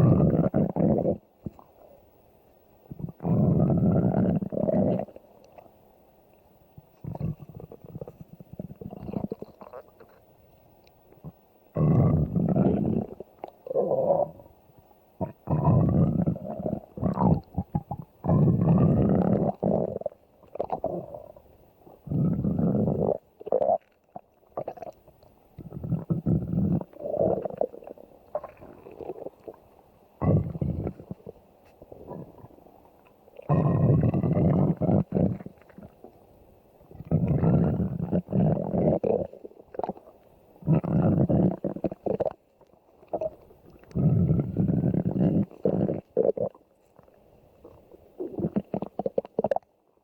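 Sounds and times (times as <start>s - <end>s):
stomach growling and gurgling: 0.0s - 2.0s, 2.9s - 5.8s, 6.8s - 50.0s.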